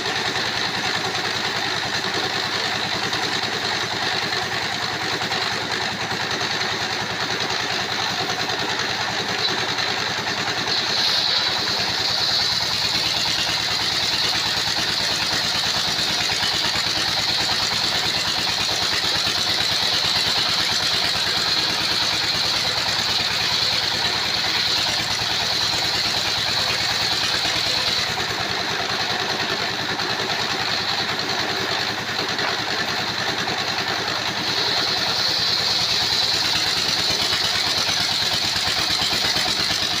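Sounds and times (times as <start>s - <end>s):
circular saw machine running: 0.0s - 40.0s
saw blade whine cutting wood: 0.0s - 40.0s.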